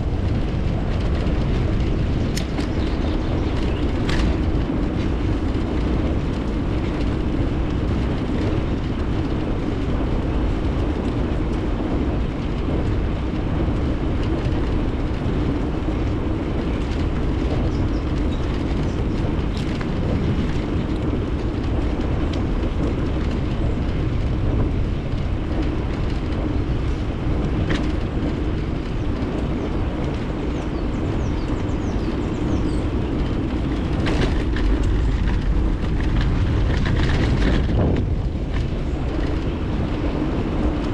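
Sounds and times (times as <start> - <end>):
bicycle rolling: 0.0 - 40.9
bike clicks and rattles: 0.0 - 40.9
wind on microphone: 0.0 - 40.9.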